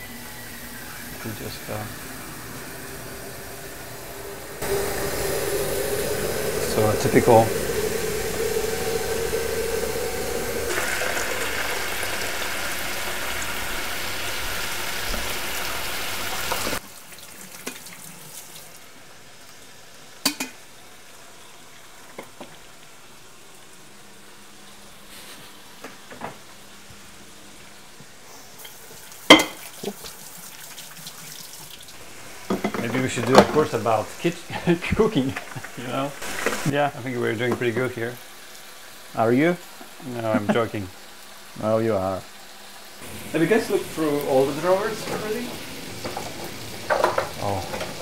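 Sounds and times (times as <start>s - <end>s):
bacon sizzling in a frying pan: 0.0s - 48.0s.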